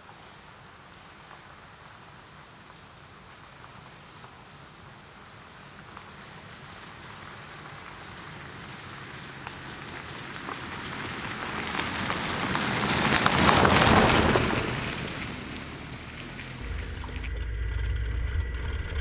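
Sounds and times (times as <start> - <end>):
vehicle tyres crunching on gravel: 0.0 - 19.0.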